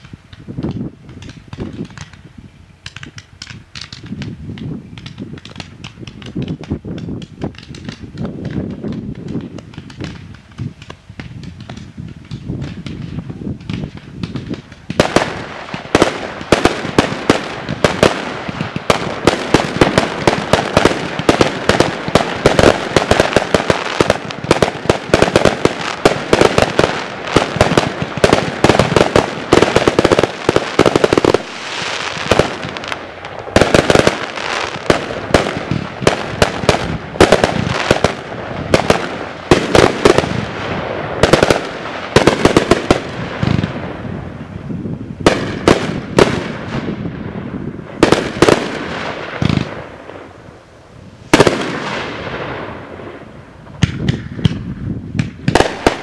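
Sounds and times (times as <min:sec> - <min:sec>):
fireworks launching and bursting: 0:00.0 - 0:56.0.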